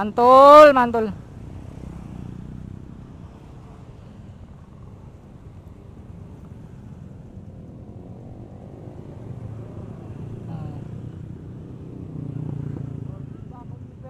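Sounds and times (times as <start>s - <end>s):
motorcycles riding past: 0.0s - 14.0s.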